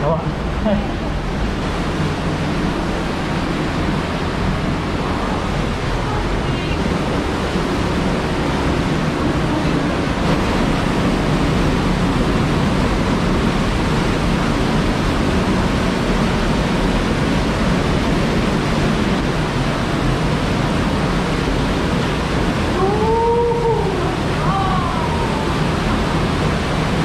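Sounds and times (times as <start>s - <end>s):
river rushing: 0.0s - 27.0s
small waterfall flowing: 0.0s - 27.0s.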